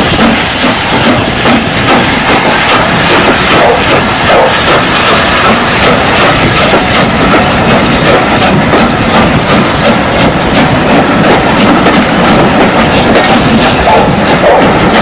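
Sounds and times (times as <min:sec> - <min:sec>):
locomotive and wheels beating: 0:00.0 - 0:15.0
steam hissing from locomotive: 0:00.0 - 0:15.0.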